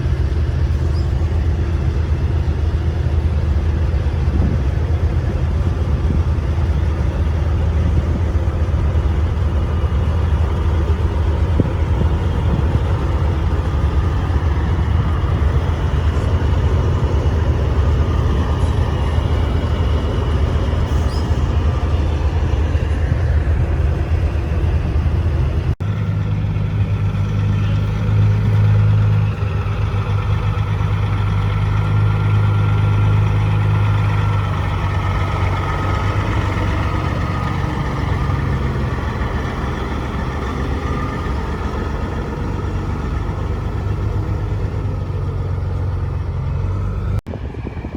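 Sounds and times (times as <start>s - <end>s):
engine idling: 0.0s - 47.9s
truck diesel engines droning: 0.0s - 47.9s.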